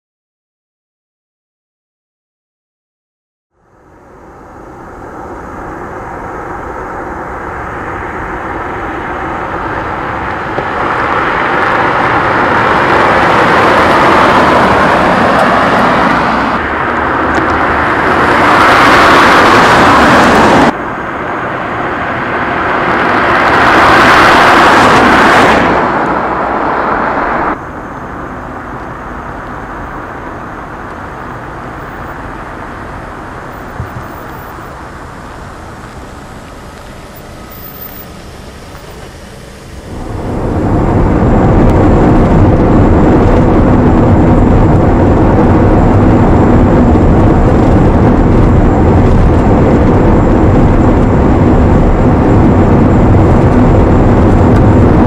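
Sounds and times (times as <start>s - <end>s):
cars driving past at speed: 3.8s - 55.0s.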